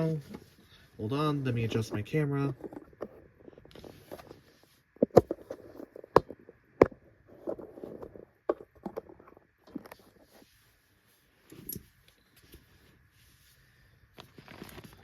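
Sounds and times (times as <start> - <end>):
rustling: 0.0 - 6.6, 7.2 - 15.0.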